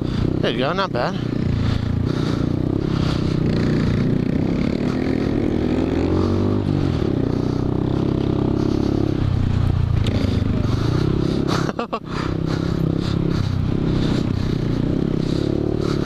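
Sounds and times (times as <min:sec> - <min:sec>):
motorcycle engine pulling hard: 0:00.0 - 0:16.0.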